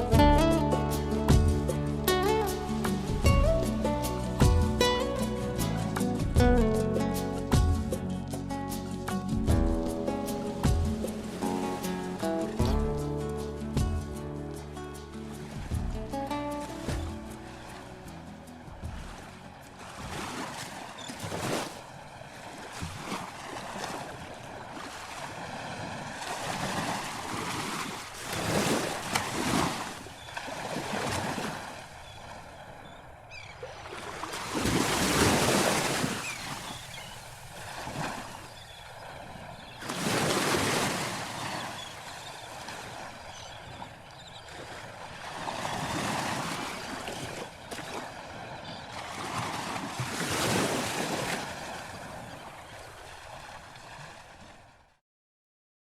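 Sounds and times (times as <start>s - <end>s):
waves breaking: 0.0s - 55.0s.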